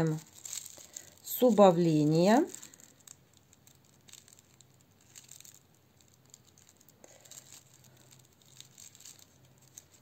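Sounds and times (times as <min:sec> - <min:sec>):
plastic crinkling: 0:00.0 - 0:10.0.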